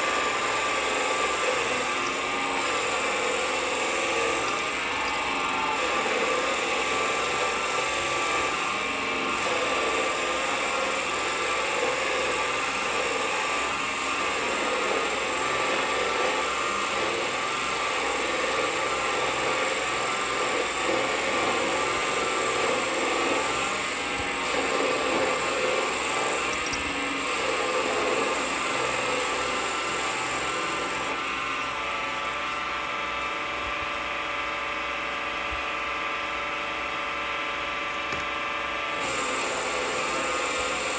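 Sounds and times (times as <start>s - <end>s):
lathe whining while cutting metal: 0.0s - 40.9s.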